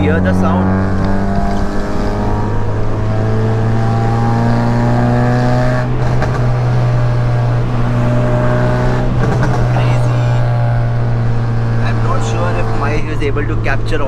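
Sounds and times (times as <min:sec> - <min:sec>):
car engine droning under load: 0:00.0 - 0:14.0.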